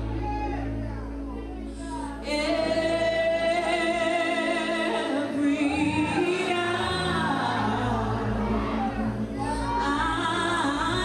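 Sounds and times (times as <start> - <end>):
woman singing into a microphone: 1.8 - 11.0.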